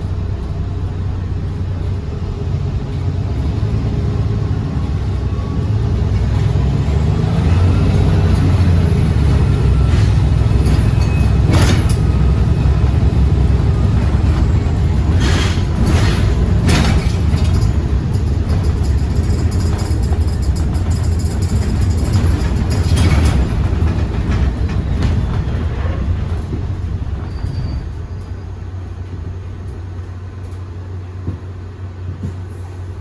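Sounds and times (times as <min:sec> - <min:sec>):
bus engine low rumble: 0:00.0 - 0:33.0.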